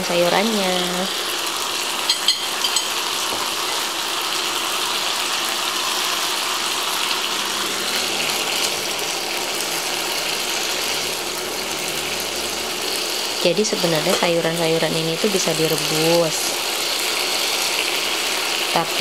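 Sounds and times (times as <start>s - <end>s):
steak sizzling in a frying pan: 0.0s - 19.0s.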